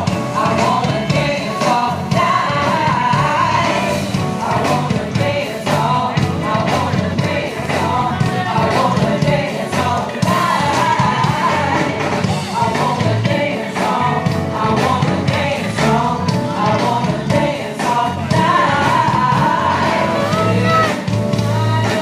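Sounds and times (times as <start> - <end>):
backing singers harmonizing: 0.0 - 22.0
soul band with drums and bass: 0.0 - 22.0.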